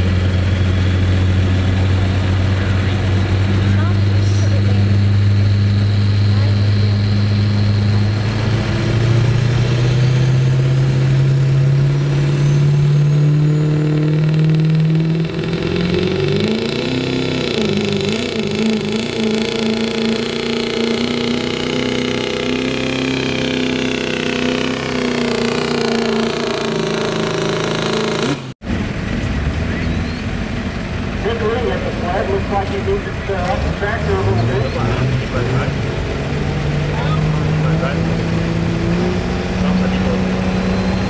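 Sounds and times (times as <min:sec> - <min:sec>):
diesel truck engine revving: 0:00.0 - 0:41.0
turbo whine: 0:00.0 - 0:41.0.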